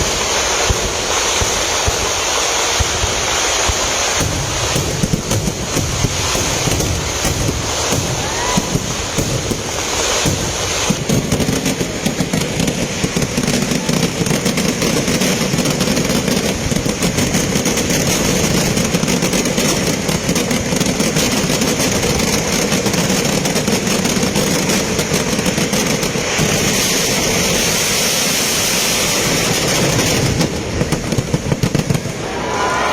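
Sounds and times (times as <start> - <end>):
firecracker bangs: 0.0 - 32.9.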